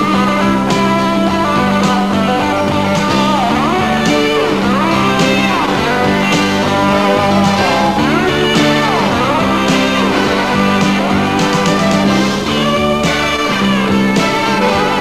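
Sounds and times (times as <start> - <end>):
bass line: 0.0 - 15.0
rock drums: 0.0 - 15.0
rock guitar: 0.0 - 15.0.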